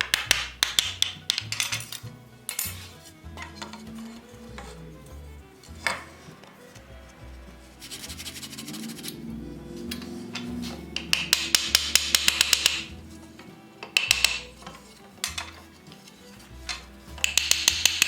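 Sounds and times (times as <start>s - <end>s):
background music: 0.0s - 18.0s
hand tool strokes on wood: 2.7s - 18.0s.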